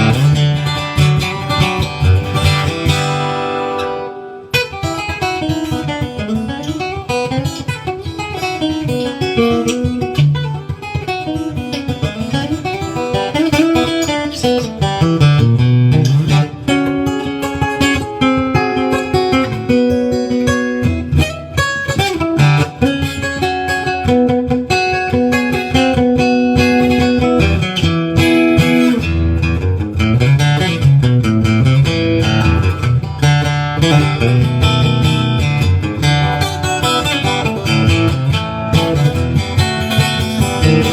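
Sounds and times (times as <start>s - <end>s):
acoustic guitar picked notes: 0.0s - 40.9s
acoustic guitar strummed chords: 0.0s - 40.9s.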